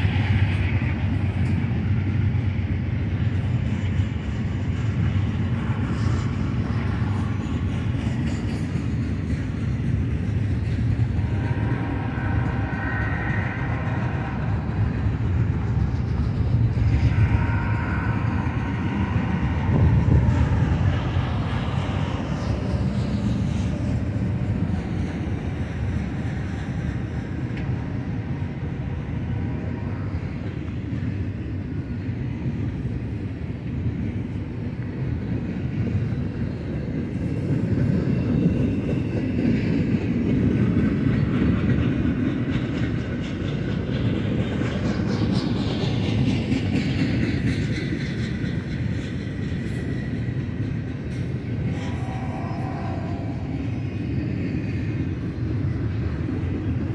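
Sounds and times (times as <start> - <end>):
freight train wheels rumbling on rails: 0.0 - 56.9.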